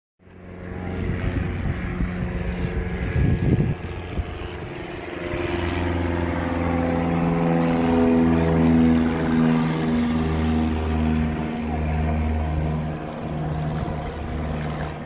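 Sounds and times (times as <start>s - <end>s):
aircraft engine drone: 0.2s - 15.0s.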